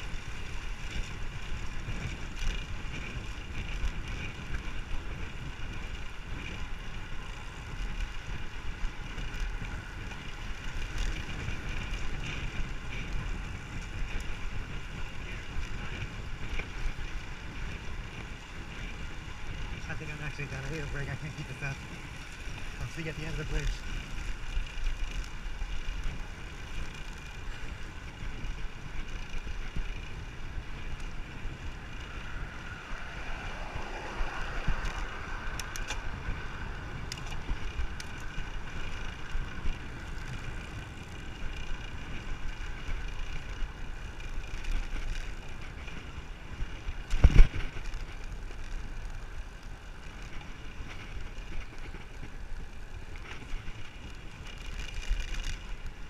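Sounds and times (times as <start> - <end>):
bicycle tyre and road noise: 0.0 - 56.0
wind rushing over microphone: 0.0 - 56.0.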